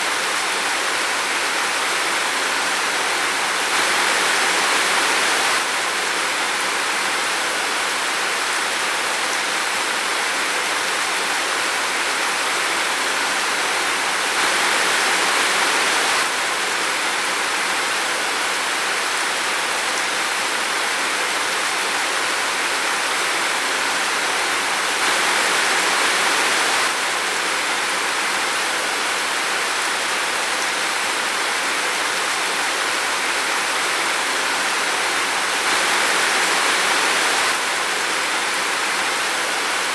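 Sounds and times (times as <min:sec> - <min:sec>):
heavy rain in a forest: 0:00.0 - 0:39.9.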